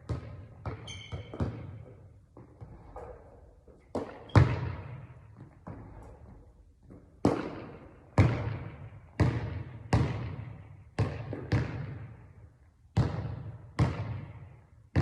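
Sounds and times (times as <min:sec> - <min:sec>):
basketball bouncing on hard floor: 0:00.0 - 0:12.2, 0:12.9 - 0:15.0.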